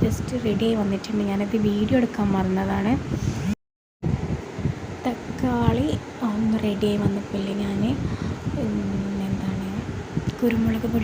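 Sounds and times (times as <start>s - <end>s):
microphone rumbling noise: 1.6s - 11.0s.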